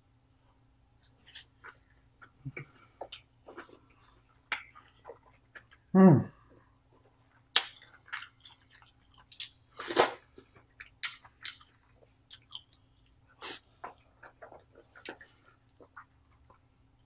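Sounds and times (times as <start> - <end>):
wet chewing and smacking: 1.0 - 5.9, 6.5 - 17.0.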